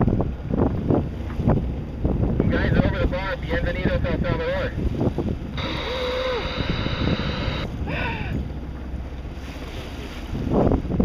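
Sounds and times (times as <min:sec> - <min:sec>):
water rushing along hull: 0:00.0 - 0:11.0
wind rumbling on microphone: 0:00.0 - 0:11.0.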